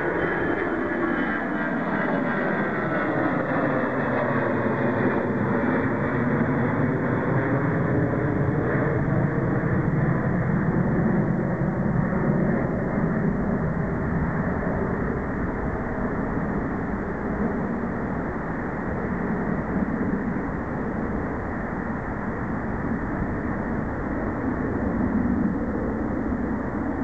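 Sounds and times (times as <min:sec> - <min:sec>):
jet engine rumble: 0:00.0 - 0:27.0.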